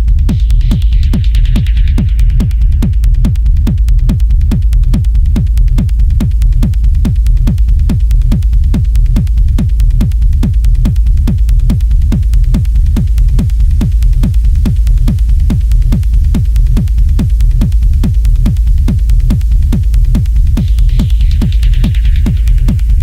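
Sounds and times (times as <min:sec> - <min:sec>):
deep bass: 0:00.0 - 0:23.0
hi-hat ticks: 0:00.0 - 0:23.0
techno kick drum: 0:00.0 - 0:23.0.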